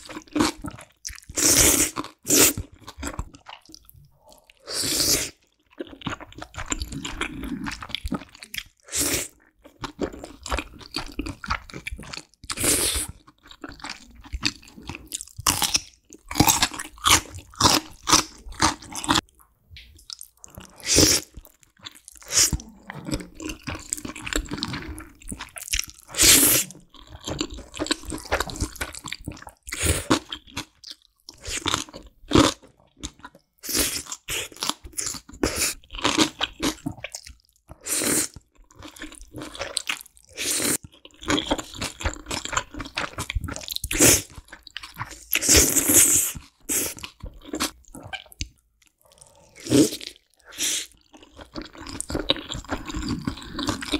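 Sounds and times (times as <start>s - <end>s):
close chewing and crunching: 0.0s - 53.9s.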